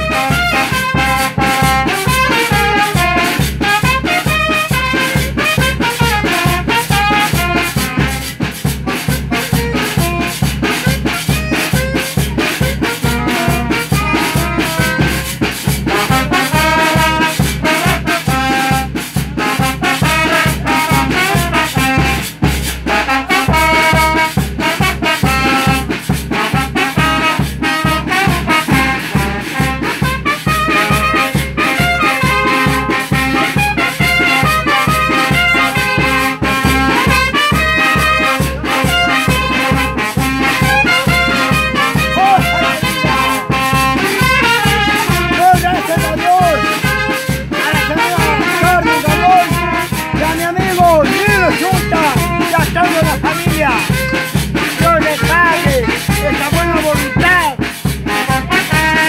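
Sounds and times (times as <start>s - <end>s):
brass band playing dance tune: 0.0s - 59.0s.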